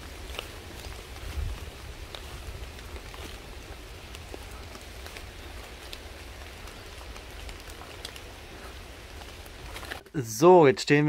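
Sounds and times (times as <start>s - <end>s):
steady low rumble: 0.0s - 10.0s
light rain on leaves: 0.0s - 10.2s.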